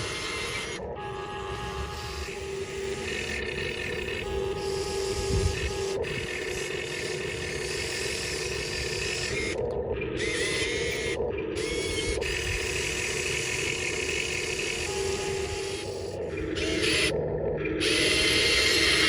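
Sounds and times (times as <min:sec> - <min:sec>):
hydraulic pump and motors whirring: 0:00.0 - 0:19.0.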